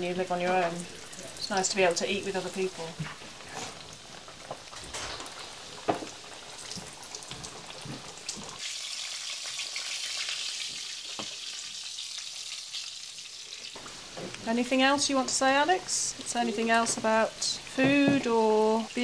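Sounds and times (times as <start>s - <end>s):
pastries sizzling in hot oil: 0.0s - 19.0s.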